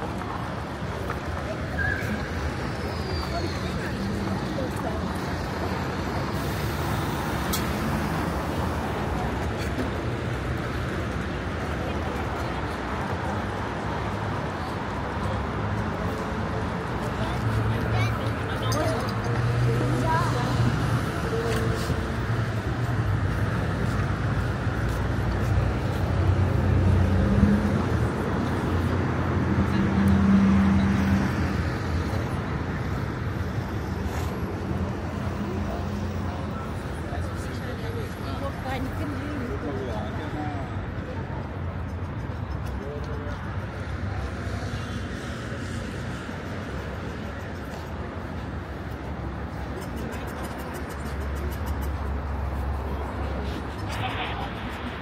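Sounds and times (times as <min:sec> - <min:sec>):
passing road traffic: 0:00.0 - 0:55.0.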